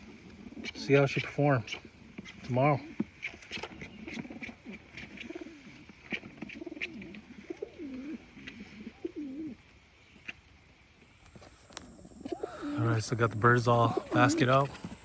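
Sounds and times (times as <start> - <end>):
pigeons cooing: 0.0 - 10.5, 11.8 - 15.0.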